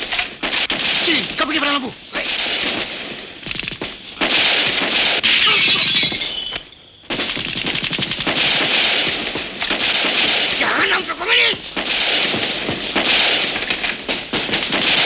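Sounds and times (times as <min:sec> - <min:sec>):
rifle and machine-gun shots: 0:00.0 - 0:15.0.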